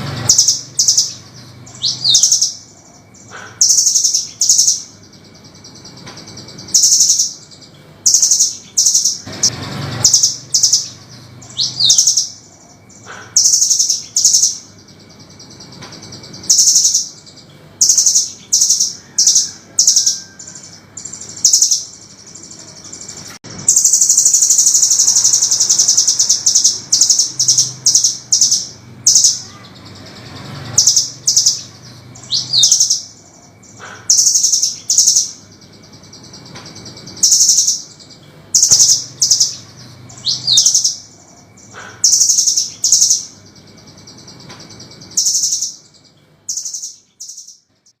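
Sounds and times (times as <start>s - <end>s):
nuthatch calling: 0.0s - 48.0s.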